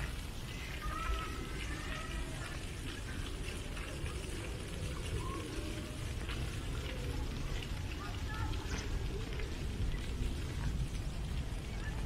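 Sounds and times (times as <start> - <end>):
faint distant voices: 0.0 - 12.0
fountain water splashing: 0.0 - 12.0.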